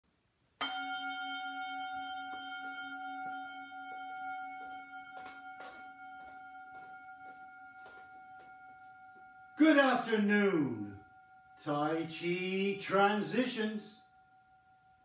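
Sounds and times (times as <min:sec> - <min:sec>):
singing bowl ringing: 0:00.6 - 0:15.0.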